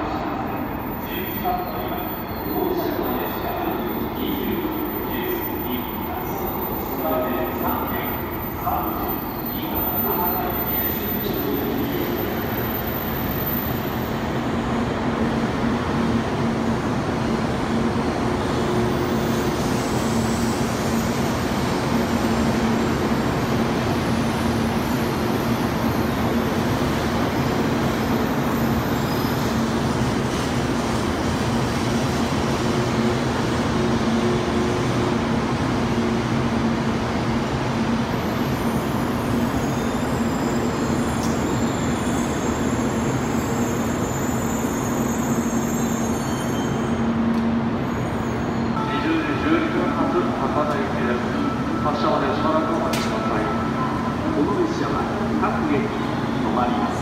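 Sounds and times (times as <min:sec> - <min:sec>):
low train hum: 0:00.0 - 0:57.0.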